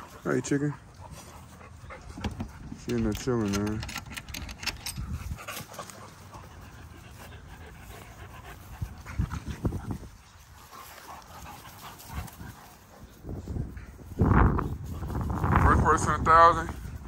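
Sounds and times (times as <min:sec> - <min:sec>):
puppies panting and sniffing: 0:00.0 - 0:15.4.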